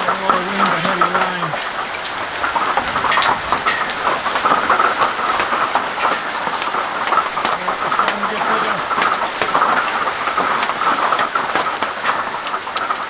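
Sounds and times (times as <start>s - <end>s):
hailstones clattering: 0.0s - 13.0s
heavy rain hissing: 0.0s - 13.0s.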